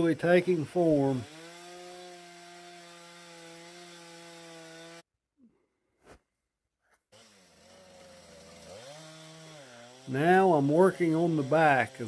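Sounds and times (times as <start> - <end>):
chainsaw running: 0.0 - 5.0, 7.1 - 12.0.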